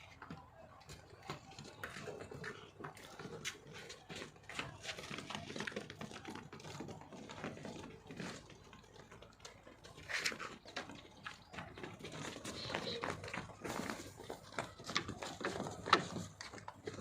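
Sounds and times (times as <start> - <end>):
goat hooves tapping on hard floor: 0.0 - 17.0
hoof scuff: 0.0 - 17.0.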